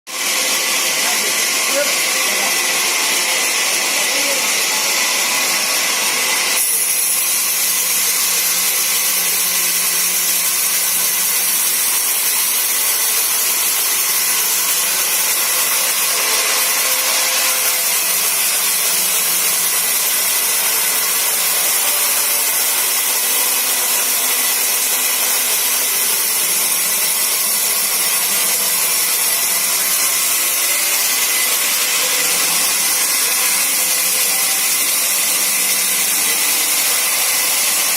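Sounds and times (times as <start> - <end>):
saw cutting through wood: 0.1 - 37.9.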